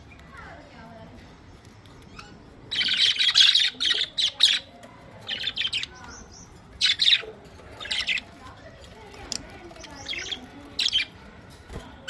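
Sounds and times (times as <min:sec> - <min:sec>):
budgerigars chirping and chattering: 0:00.0 - 0:12.0.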